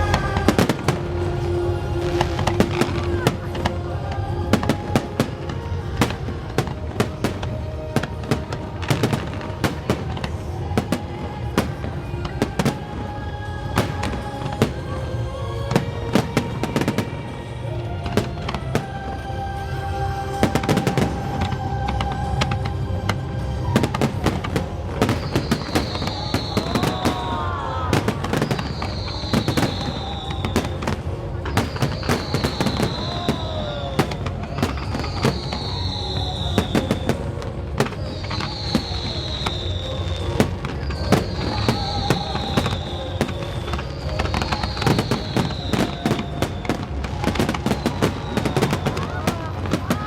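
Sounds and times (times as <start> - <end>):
fireworks crackling and banging: 0.0 - 50.0
high falling firework whistle: 0.0 - 50.0.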